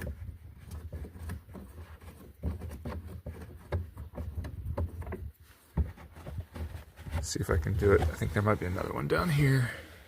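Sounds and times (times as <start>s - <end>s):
hands tapping and scraping plastic: 0.0s - 9.1s.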